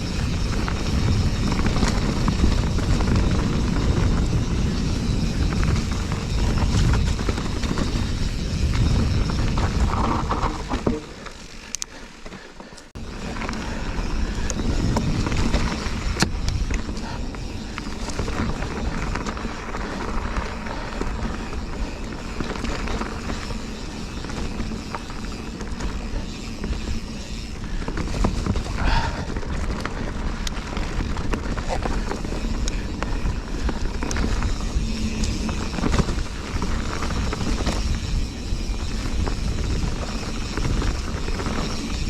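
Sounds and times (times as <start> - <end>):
wind noise on microphone: 0.0 - 11.0, 13.0 - 42.0
bike rattling and clattering: 0.0 - 42.0
bike tyre rumble: 0.0 - 42.0.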